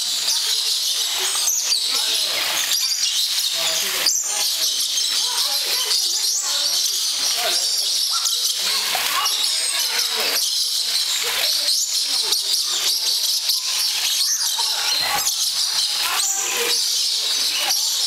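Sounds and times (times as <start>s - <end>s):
parrots chattering: 0.0s - 18.0s
people's voices: 0.0s - 18.0s
small waterfall rushing: 0.0s - 18.0s.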